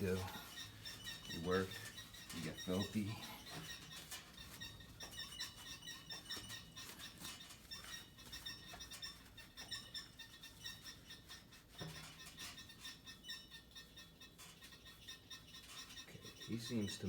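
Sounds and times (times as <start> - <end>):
rapid high-pitched squeaks: 0.0 - 17.0.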